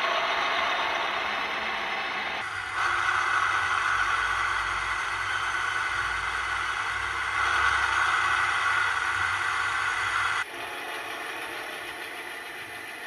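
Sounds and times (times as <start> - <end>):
diesel locomotive engine through small speaker: 0.0 - 13.0.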